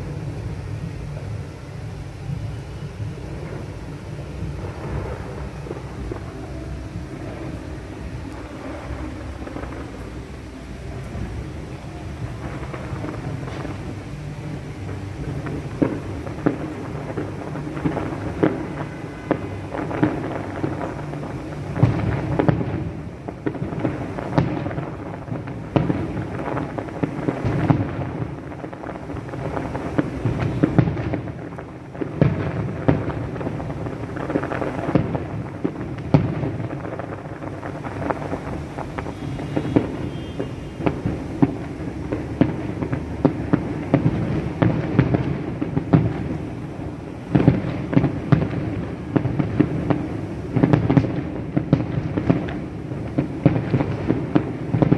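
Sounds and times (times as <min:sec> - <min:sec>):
low rumble and crackle: 0:00.0 - 0:54.9.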